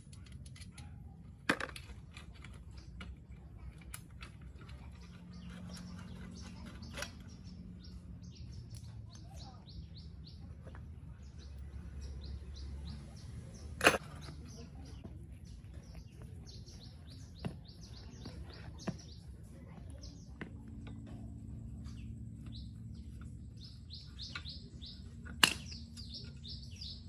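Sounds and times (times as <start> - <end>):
small bird chirping: 4.7 - 27.0.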